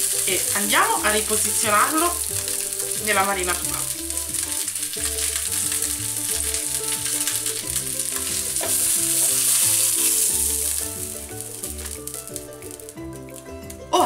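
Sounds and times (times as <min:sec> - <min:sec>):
background music: 0:00.0 - 0:14.0
fat sizzling in frying pan: 0:00.0 - 0:14.0.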